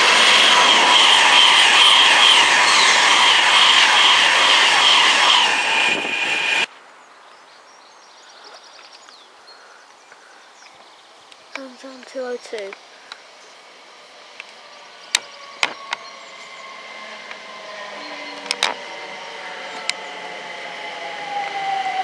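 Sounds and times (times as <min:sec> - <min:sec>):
electric train passing: 0:00.0 - 0:06.7, 0:11.0 - 0:22.0.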